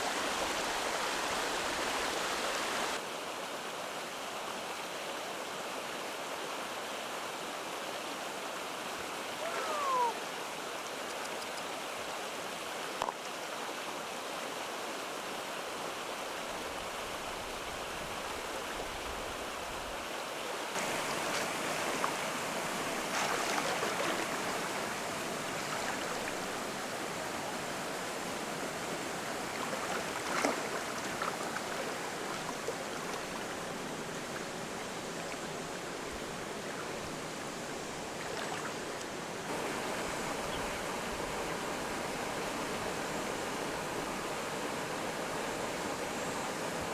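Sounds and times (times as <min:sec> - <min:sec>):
flowing water rushing: 0:00.0 - 0:04.7, 0:05.8 - 0:46.9.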